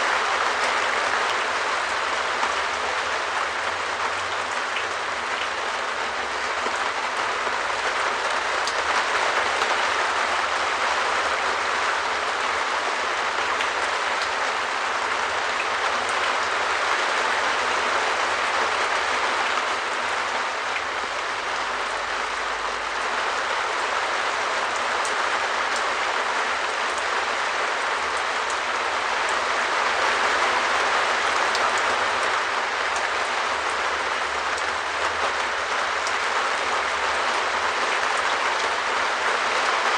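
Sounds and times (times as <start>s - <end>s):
rain on a shed roof: 0.0s - 39.9s.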